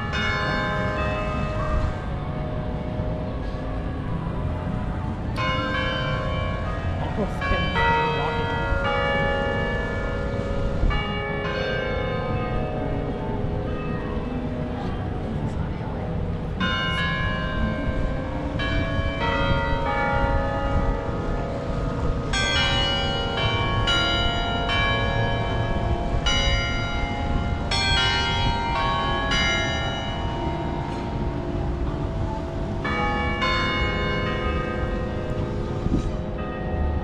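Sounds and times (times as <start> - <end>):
bells ringing: 0.0 - 37.0.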